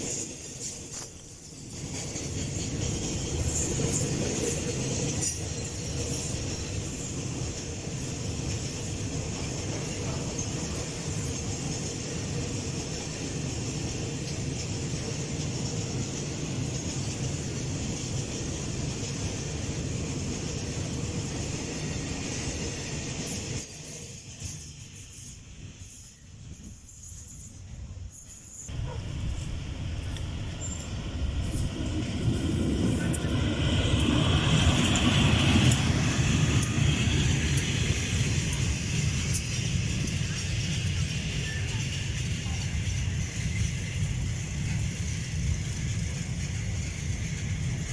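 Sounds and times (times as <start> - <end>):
freight train rumbling past: 0.0 - 47.9.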